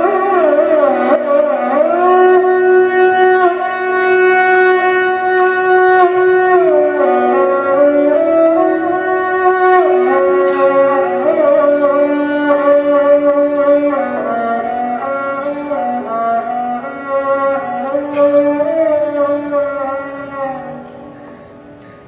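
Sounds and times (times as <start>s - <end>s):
bowed string solo melody: 0.0s - 21.9s.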